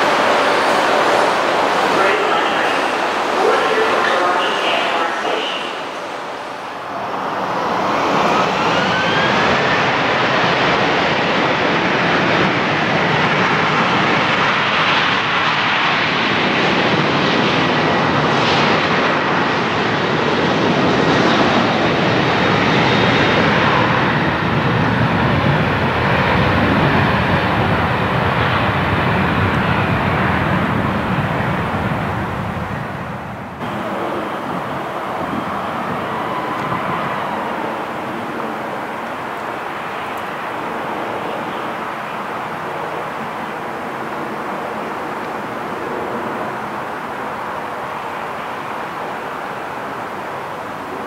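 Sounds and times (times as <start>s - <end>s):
jet airliner engines running: 0.0s - 51.0s.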